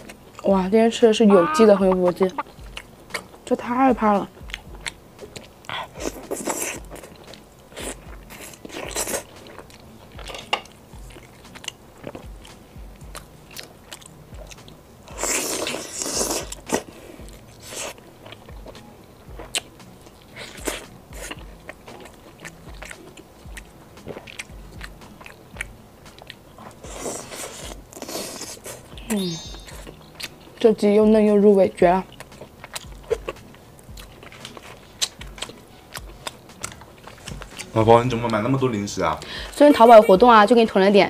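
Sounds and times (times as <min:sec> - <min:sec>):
chewing and crunching chicken: 0:01.9 - 0:28.9, 0:29.7 - 0:30.8, 0:31.8 - 0:39.6.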